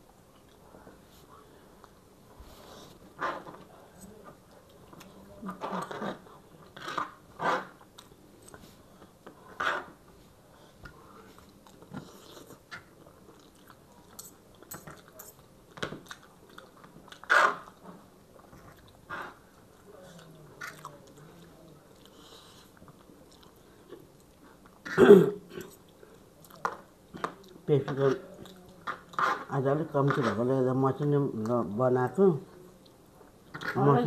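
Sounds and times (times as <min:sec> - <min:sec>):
people chewing food: 0:00.0 - 0:31.6.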